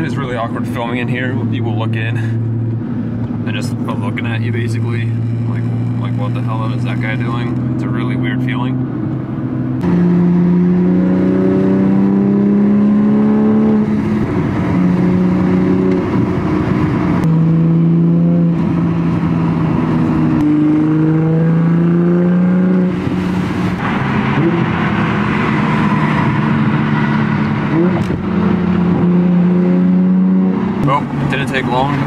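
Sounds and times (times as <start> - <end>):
car engine accelerating through gears: 1.3 - 32.0.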